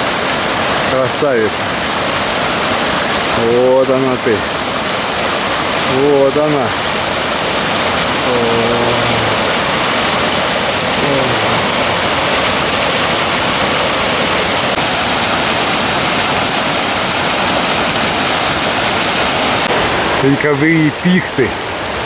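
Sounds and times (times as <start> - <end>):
brook splashing over rocks: 0.0 - 20.2.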